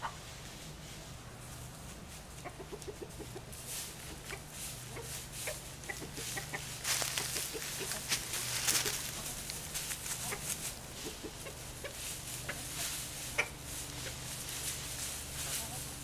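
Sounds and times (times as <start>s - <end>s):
chickens clucking: 0.0s - 16.0s
rustling in dry straw: 0.0s - 16.0s.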